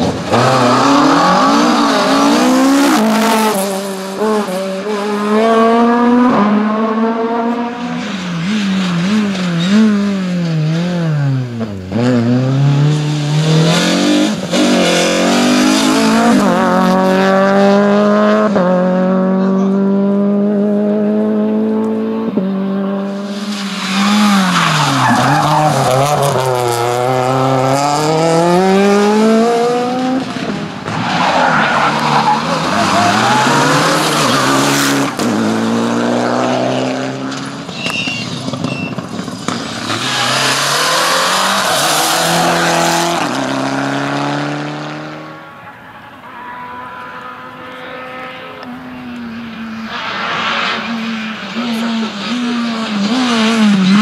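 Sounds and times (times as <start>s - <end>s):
rally car engines at full throttle: 0.0s - 54.0s.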